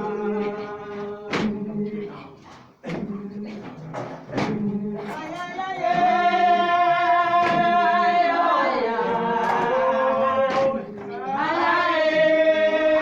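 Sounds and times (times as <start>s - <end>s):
voices singing a hymn: 0.0s - 13.0s
sharp percussive beats: 0.4s - 2.0s, 2.8s - 12.8s.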